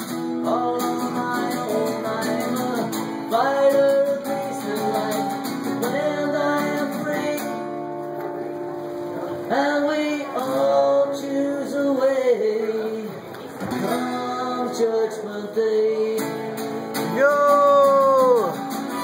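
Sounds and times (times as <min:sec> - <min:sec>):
acoustic guitar strummed: 0:00.0 - 0:13.0, 0:13.6 - 0:19.0.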